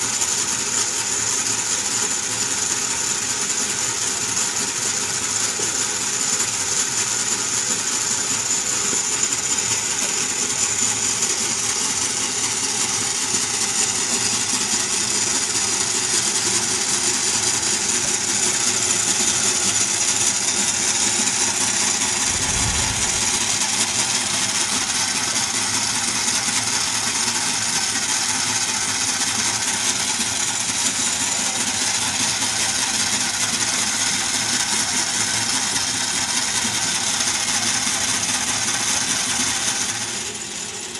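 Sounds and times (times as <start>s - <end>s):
model engine clattering: 0.0s - 40.9s.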